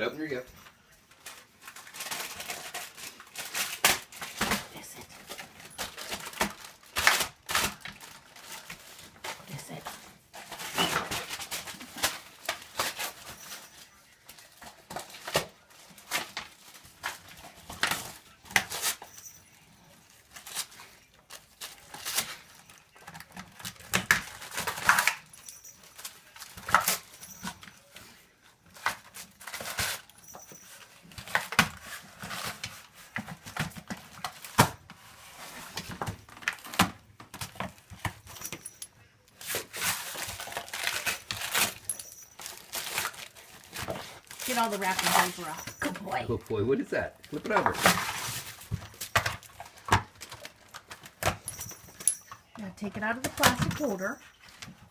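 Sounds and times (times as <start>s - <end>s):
dog tearing wrapping paper: 0.7s - 51.5s.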